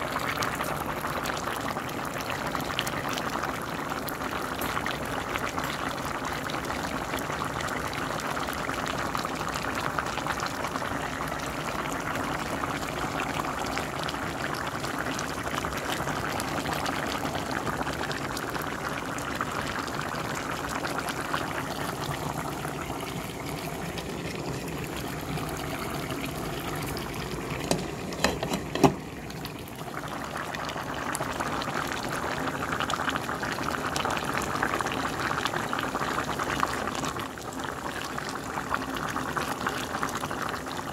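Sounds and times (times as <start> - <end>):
pot of broth bubbling: 0.0 - 40.9.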